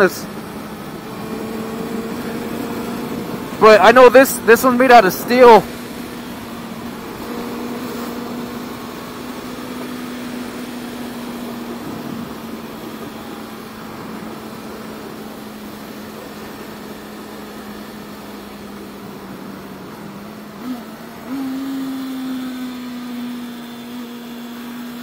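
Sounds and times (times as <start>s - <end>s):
motorcycle engine humming: 0.0s - 25.0s.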